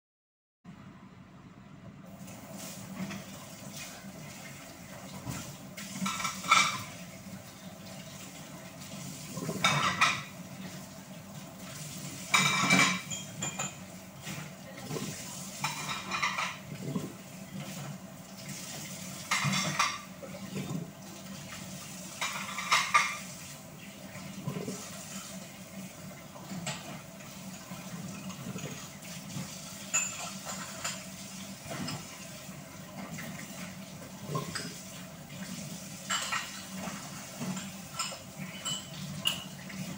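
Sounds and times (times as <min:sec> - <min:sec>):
running tap water: 0:02.1 - 0:39.9
dishes clattering in metal sink: 0:02.6 - 0:25.4, 0:26.2 - 0:39.9.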